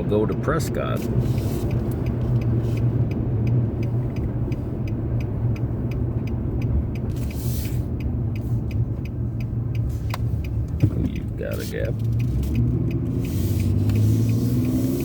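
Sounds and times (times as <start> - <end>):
car engine and road rumble: 0.0 - 15.0
turn signal ticking: 0.0 - 15.0.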